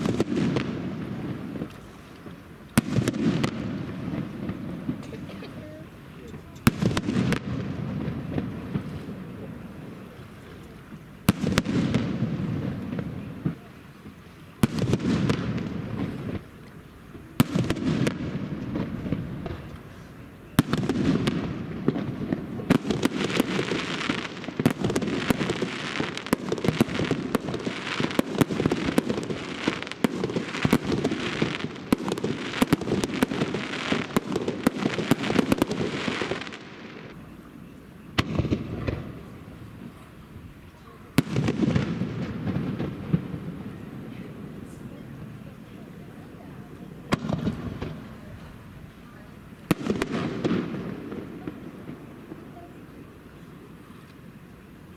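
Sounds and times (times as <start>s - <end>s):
firework bangs and crackling: 0.0s - 54.9s.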